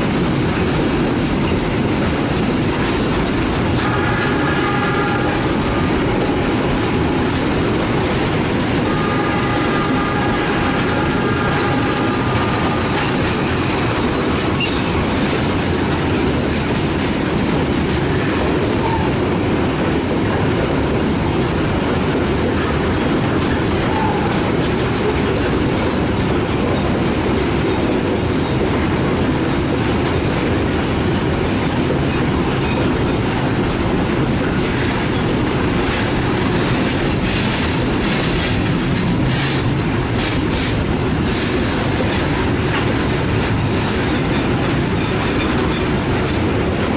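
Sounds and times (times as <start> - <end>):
freight train wheels clattering: 0.0 - 46.9.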